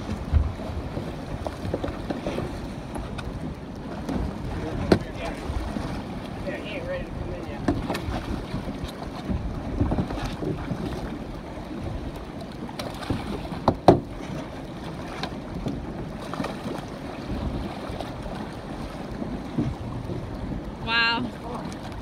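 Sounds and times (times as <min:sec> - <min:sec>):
water splashing at boat side: 0:00.0 - 0:22.0
wind on microphone: 0:00.0 - 0:22.0.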